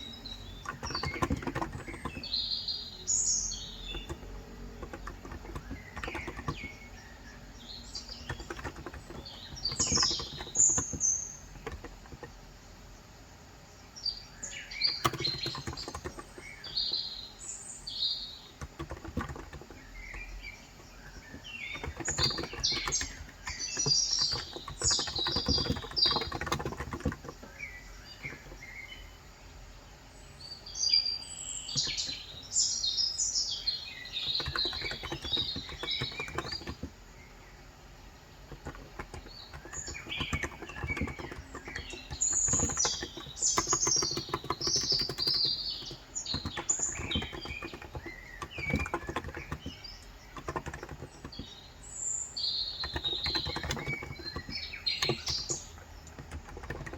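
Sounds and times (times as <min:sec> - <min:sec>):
fast keyboard typing: 0:00.0 - 0:12.6, 0:14.4 - 0:29.2, 0:31.7 - 0:32.6, 0:33.5 - 0:37.2, 0:38.1 - 0:56.9
birds chirping: 0:00.0 - 0:56.9.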